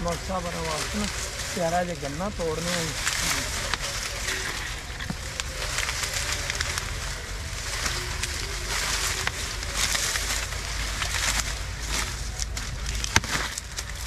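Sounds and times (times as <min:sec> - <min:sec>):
dry leaves rustling: 0:00.0 - 0:14.0
sugarcane snapping: 0:00.0 - 0:14.0.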